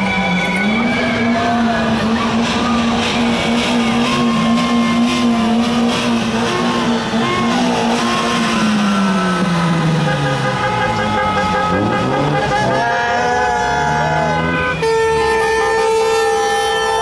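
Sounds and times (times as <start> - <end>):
higher horn toots: 0.0 - 17.0
horn long low note: 0.0 - 17.0
street traffic: 0.0 - 17.0.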